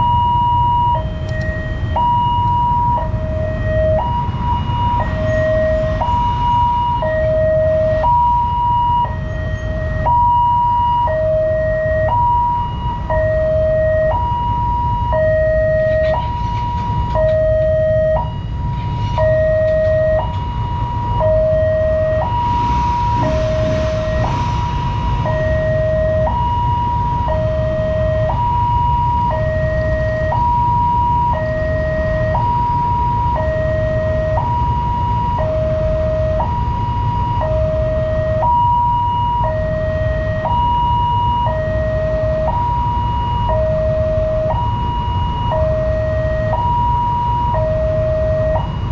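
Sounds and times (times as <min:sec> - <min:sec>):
level crossing two-tone alarm: 0:00.0 - 0:48.9
low rumble of road traffic: 0:00.0 - 0:48.9.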